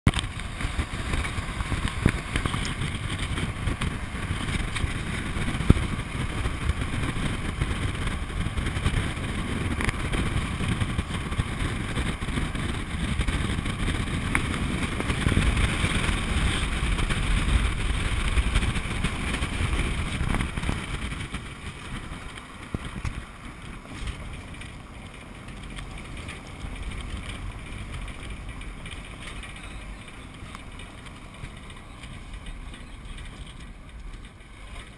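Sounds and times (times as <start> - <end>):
vehicle road and wind noise: 0.0 - 34.9.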